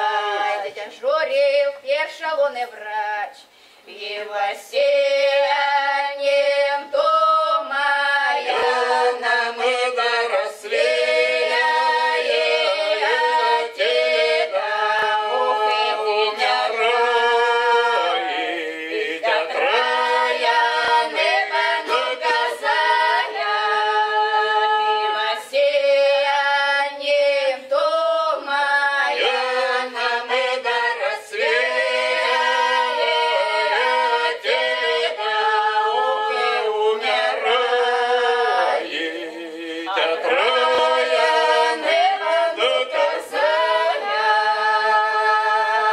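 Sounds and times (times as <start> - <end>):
folk ensemble singing a cappella: 0.0 - 45.9.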